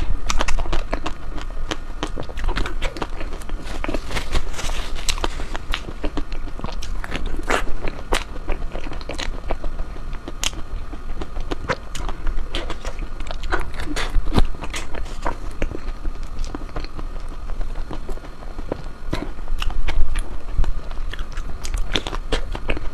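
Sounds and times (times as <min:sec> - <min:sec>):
crisp cone crackling: 0:00.0 - 0:22.9
person eating ice cream: 0:00.0 - 0:22.9.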